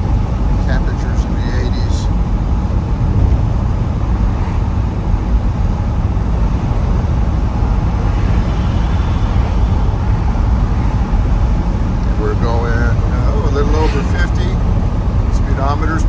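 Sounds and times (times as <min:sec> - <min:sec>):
car engine rumble: 0:00.0 - 0:16.0
road and wind noise: 0:00.0 - 0:16.0.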